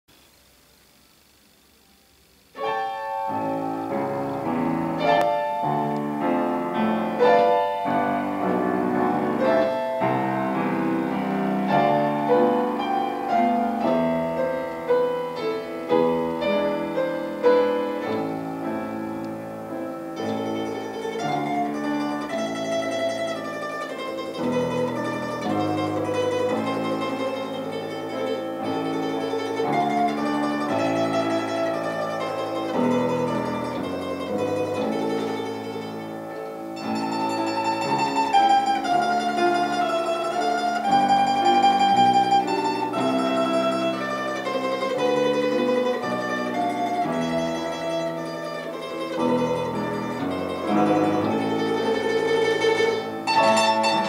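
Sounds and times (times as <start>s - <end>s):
piano: 0.4s - 54.0s
plucked string instrument melody: 2.6s - 54.0s.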